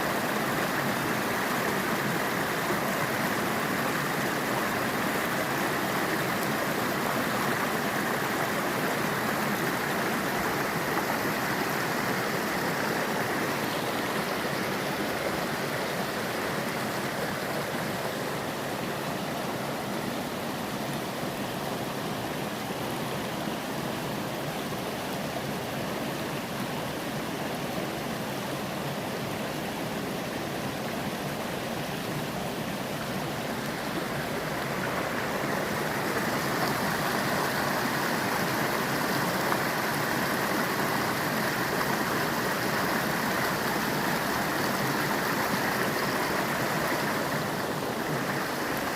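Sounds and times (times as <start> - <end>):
stream water rushing: 0.0 - 48.9.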